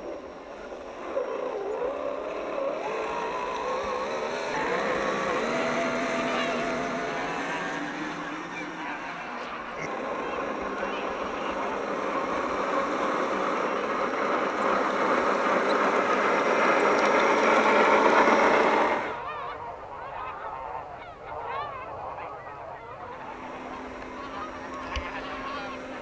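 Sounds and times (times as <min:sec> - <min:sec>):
chorus of birds calling: 0:00.0 - 0:26.0
rising-and-falling bird calls: 0:00.0 - 0:26.0.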